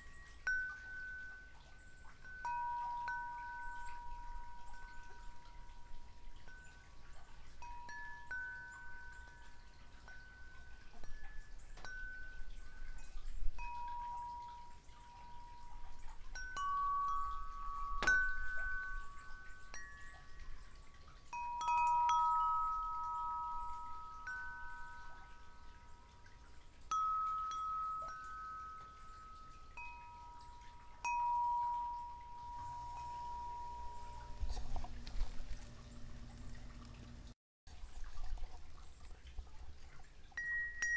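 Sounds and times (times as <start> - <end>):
wind chimes ringing: 0.0 - 37.3, 40.4 - 40.9.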